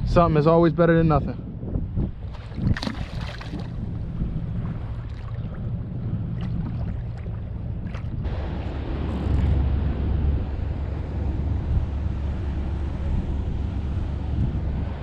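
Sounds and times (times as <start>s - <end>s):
wind on microphone: 0.0s - 15.0s
water washing around kayak: 2.2s - 15.0s.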